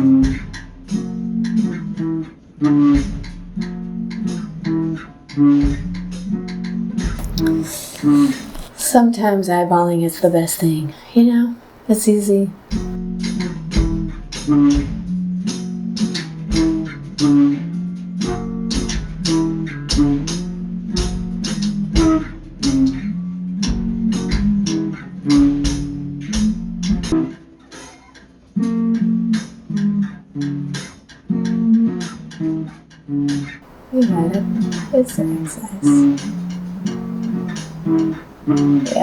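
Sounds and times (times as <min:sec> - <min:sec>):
plucked guitar: 0:00.0 - 0:08.7, 0:12.7 - 0:39.0.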